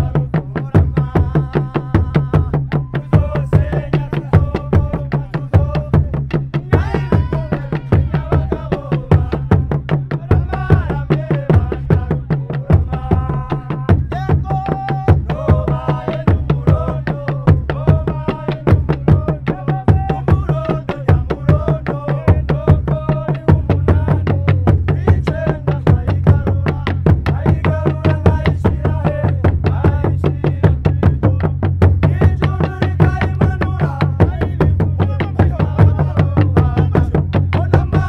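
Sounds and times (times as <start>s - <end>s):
drums beaten with sticks: 0.0s - 38.0s
men singing: 0.0s - 38.0s.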